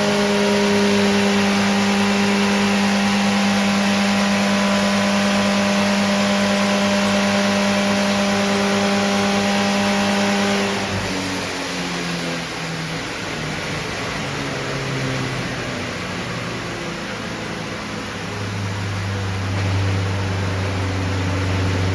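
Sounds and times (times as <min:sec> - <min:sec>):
race car engine running: 0:00.0 - 0:21.9.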